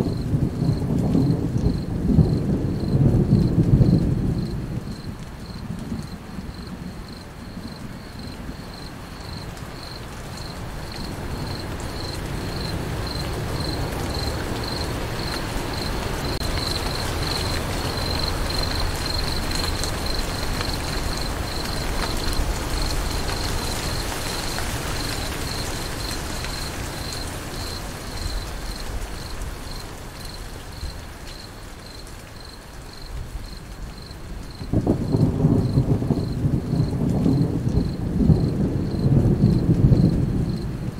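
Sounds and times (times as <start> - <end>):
thunder rumble: 0.0 - 29.4, 33.2 - 40.9
crickets chirping: 0.0 - 40.9
rain falling: 0.0 - 40.9.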